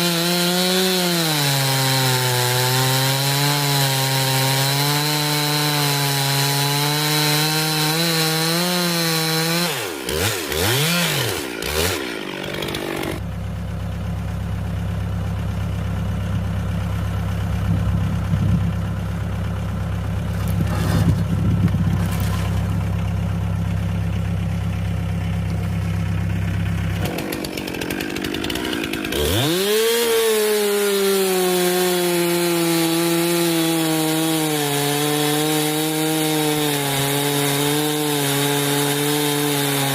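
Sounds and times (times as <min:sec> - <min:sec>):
chainsaw cutting log: 0:00.0 - 0:13.3, 0:20.0 - 0:39.9
chainsaw idling: 0:00.0 - 0:39.9.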